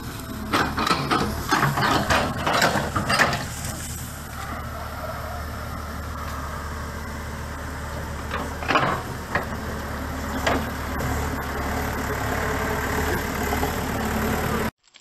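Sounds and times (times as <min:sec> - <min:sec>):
diesel engine running: 0:00.0 - 0:14.8.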